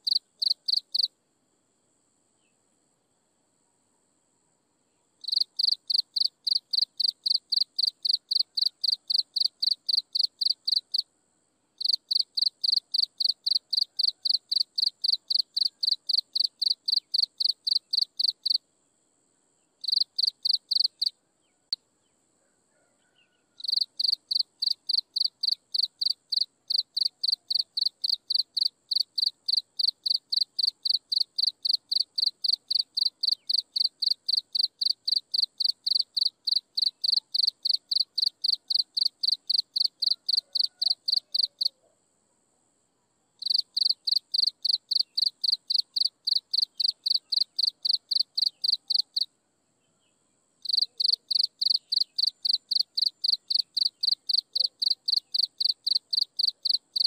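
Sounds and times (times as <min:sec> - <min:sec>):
insect chirping: 0:00.0 - 0:22.3, 0:23.0 - 0:57.0.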